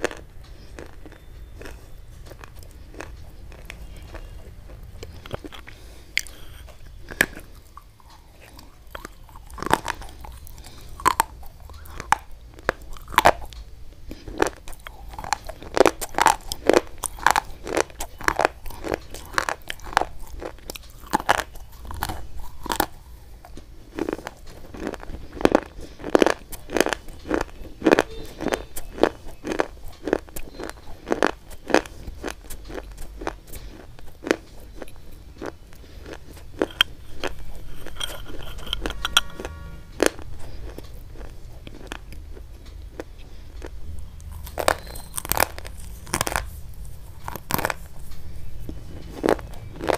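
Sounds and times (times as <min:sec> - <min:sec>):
crunching of hard sticks: 0:00.0 - 0:49.9.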